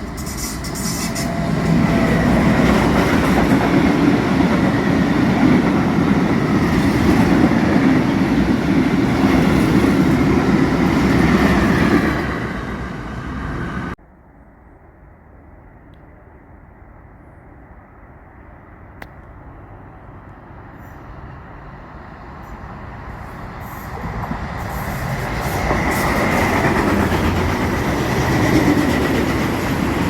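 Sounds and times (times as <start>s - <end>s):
freight train wheels on rail: 0.0s - 14.0s, 19.0s - 30.0s.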